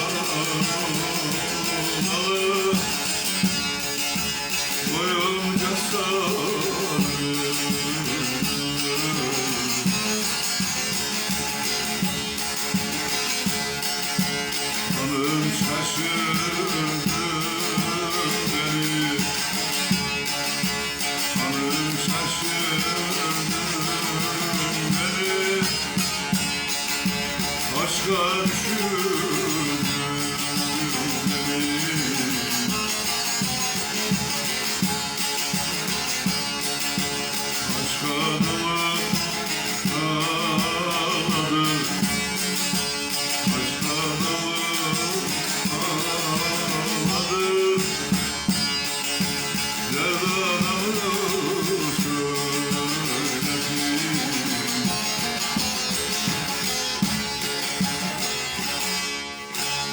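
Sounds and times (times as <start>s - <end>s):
plucked strings folk melody: 0.0s - 59.9s.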